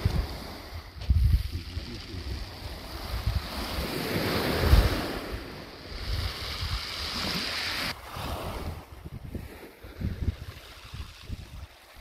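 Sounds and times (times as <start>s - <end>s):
waves washing over shingle: 0.0s - 12.0s
wind buffeting microphone: 0.0s - 12.0s.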